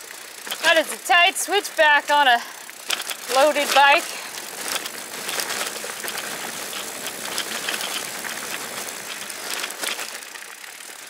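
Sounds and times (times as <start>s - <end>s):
bike rattling over bumps: 0.0s - 11.0s
bike tyres rolling on gravel: 0.0s - 11.0s.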